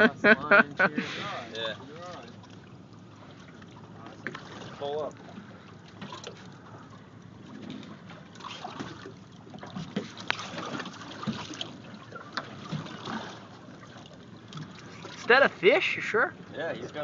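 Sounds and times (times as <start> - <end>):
water lapping against boat: 0.0 - 17.0.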